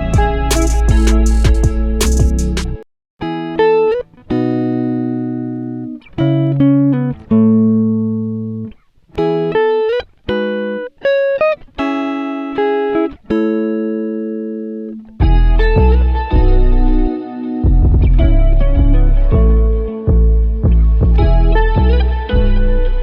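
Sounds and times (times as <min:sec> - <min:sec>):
clean guitar picking: 0:00.0 - 0:23.0.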